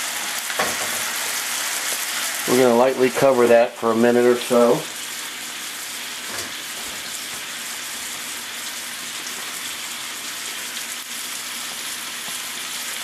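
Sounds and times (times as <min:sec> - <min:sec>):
food sizzling in skillets: 0:00.0 - 0:13.0.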